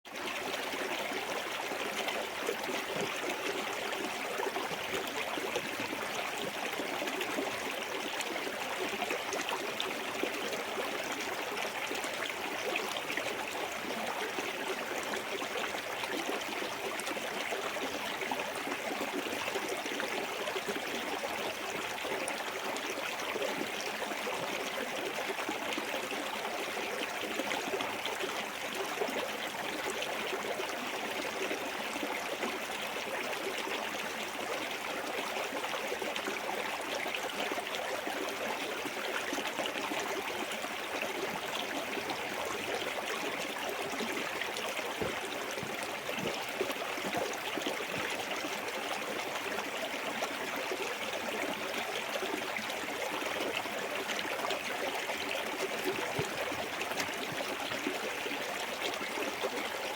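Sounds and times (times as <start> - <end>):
stream over small waterfall: 0.1 - 59.9.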